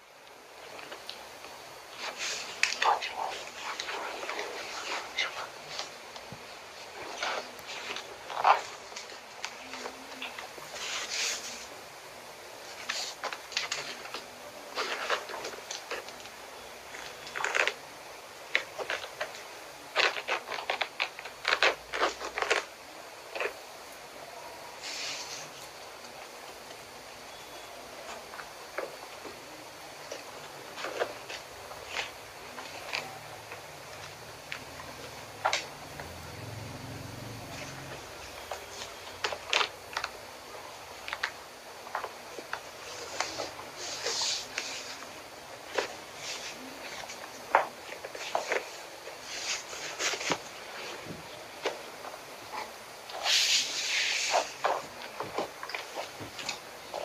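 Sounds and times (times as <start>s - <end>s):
clothing rustle: 0.0s - 57.0s.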